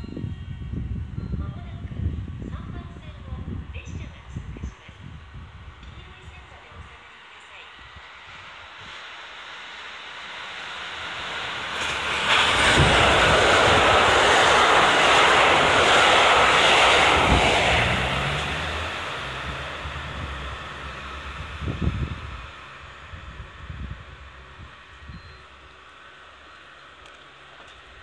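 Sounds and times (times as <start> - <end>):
train engine hum: 0.0 - 28.0
diesel train passing: 2.4 - 28.0.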